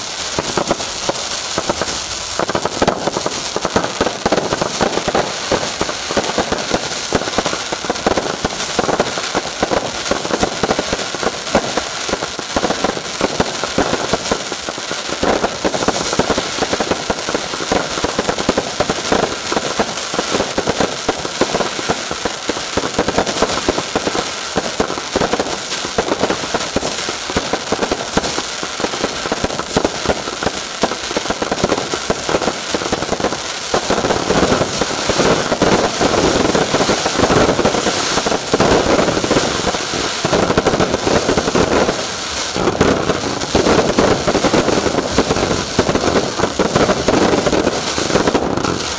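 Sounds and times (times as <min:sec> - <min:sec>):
fireworks bangs and crackle: 0:00.0 - 0:48.9.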